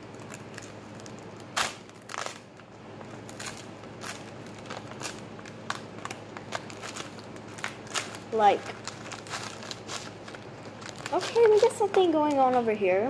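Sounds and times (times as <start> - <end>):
paper and tape crinkling: 0.0 - 13.0.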